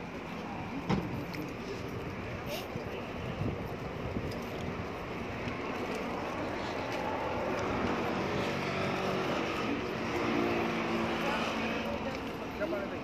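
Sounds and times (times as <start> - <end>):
engine hum: 0.0 - 13.0
street noise: 0.0 - 13.0.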